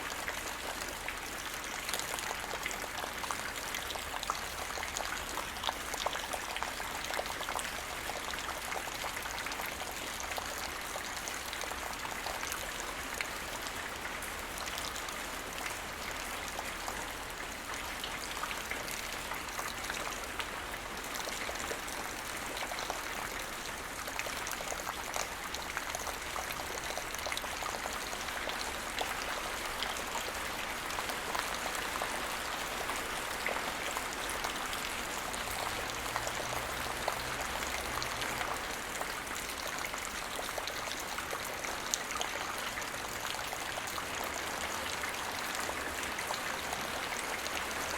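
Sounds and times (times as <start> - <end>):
rain pattering on hard surfaces: 0.0 - 47.9.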